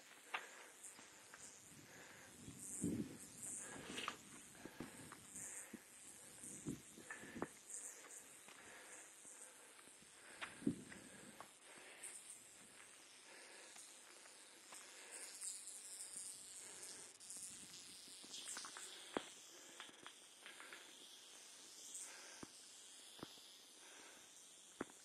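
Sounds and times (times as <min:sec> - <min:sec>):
rattlesnake rattling: 0:00.0 - 0:25.0.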